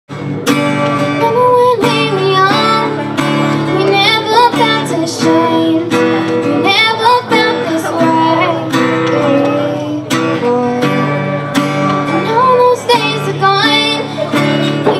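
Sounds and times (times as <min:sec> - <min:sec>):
acoustic guitar strumming: 0:00.1 - 0:14.9
girl singing: 0:01.0 - 0:14.9.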